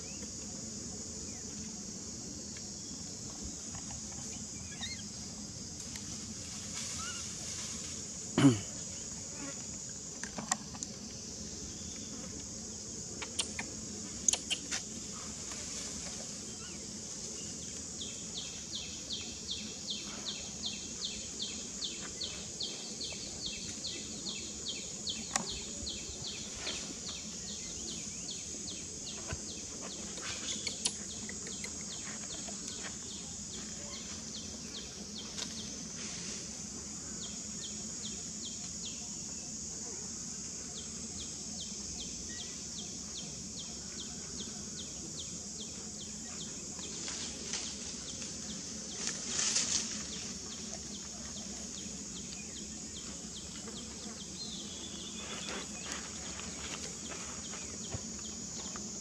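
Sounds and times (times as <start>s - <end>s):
high-pitched background hiss: 0.0s - 59.0s.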